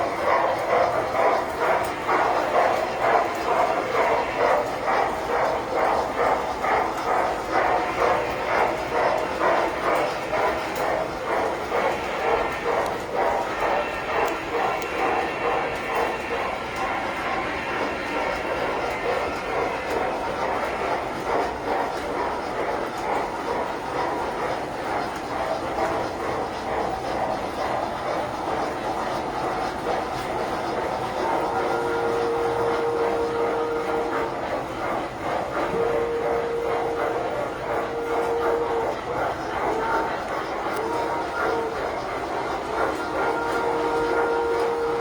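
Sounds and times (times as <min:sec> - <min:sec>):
model train rhythmic clatter: 0:00.0 - 0:45.0.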